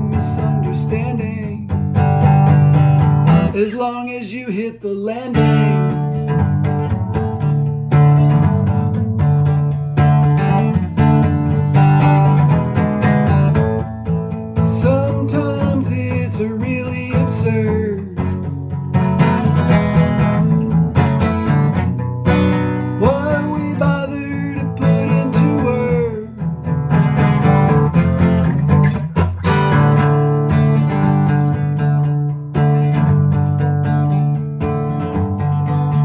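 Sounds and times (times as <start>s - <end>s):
strummed acoustic guitar: 0.0s - 36.0s
low accompaniment: 5.7s - 36.0s.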